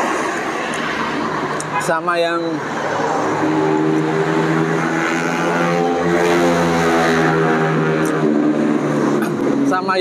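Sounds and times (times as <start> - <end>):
vehicle engine droning: 0.9 - 10.0.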